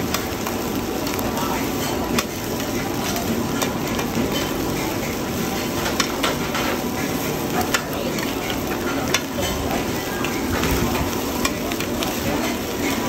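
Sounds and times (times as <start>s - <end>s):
omelette sizzling in a pan: 0.0s - 13.0s
metal spatulas scraping a pan: 1.8s - 13.0s.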